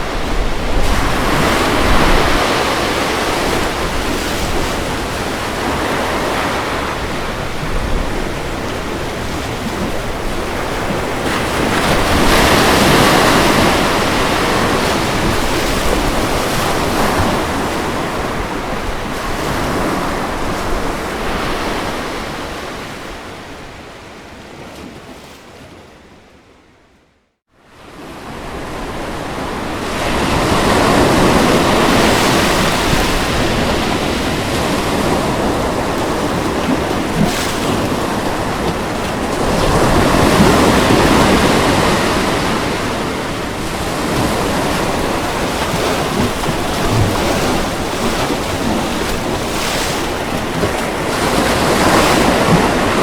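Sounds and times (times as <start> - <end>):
ocean surf washing onto beach: 0.0 - 25.0, 27.8 - 53.0.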